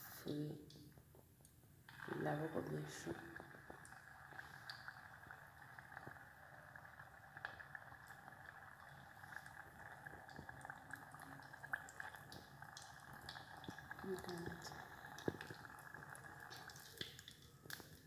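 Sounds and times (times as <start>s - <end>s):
small crackles and pops: 0.5s - 18.0s
hot oil sizzling: 1.9s - 18.0s.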